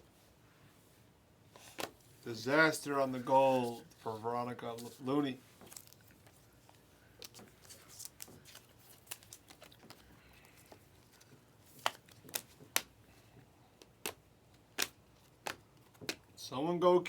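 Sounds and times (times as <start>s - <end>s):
cards rustling: 1.6s - 16.4s.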